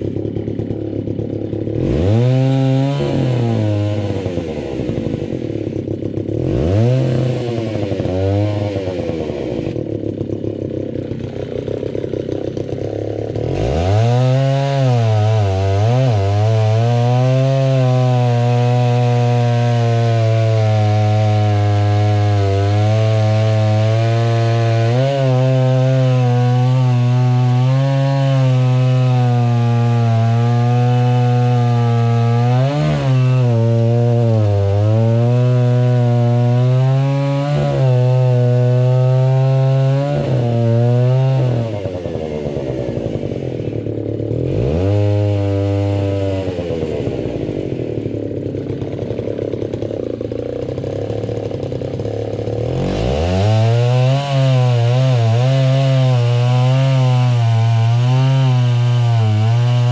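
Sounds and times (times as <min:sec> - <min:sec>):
chainsaw cutting log: 0:00.0 - 0:59.9
chainsaw idling and revving: 0:00.0 - 0:59.9.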